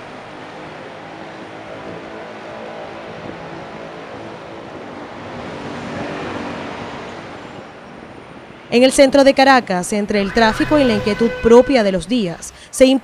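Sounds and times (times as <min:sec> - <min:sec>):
city traffic noise: 0:00.0 - 0:13.0.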